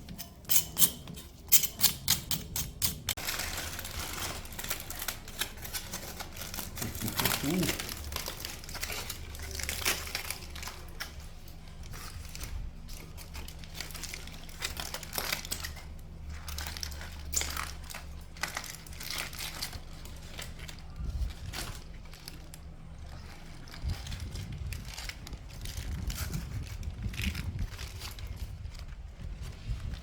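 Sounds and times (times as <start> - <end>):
charred skin scraping off: 0.0 - 28.7.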